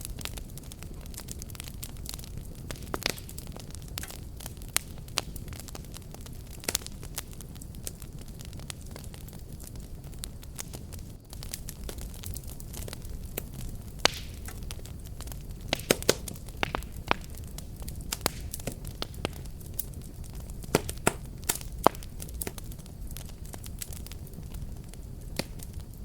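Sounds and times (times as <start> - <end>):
fire crackles and pops: 0.0 - 26.0
fire low rumble: 0.0 - 26.0.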